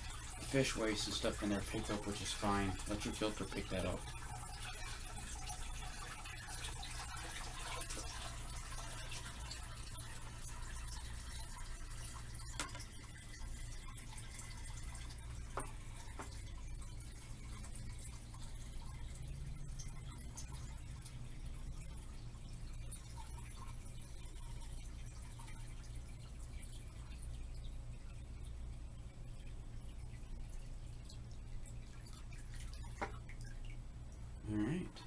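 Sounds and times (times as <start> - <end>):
water pouring into a tank: 0.0 - 35.0.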